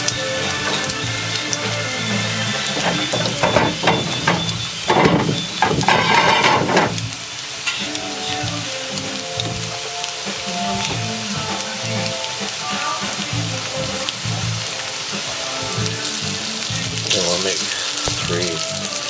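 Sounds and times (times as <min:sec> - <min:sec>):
potato sizzling in hot oil: 0:00.0 - 0:19.0.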